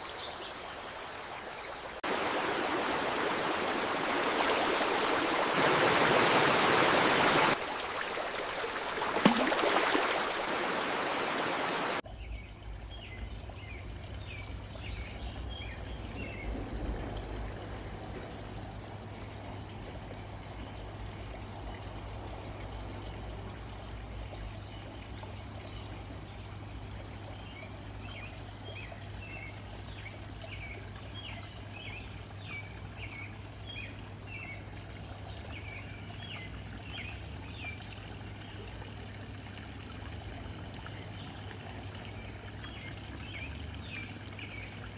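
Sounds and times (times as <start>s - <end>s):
rush of water: 0.0s - 44.9s
water trickling: 0.0s - 44.9s.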